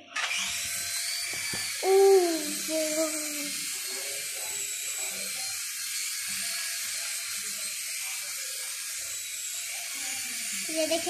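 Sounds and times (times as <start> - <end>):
toy helicopter whirring: 0.0 - 11.0.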